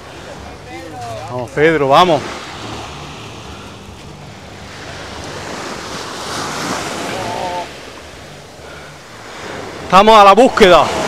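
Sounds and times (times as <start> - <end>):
surf on pebble beach: 0.0 - 11.0.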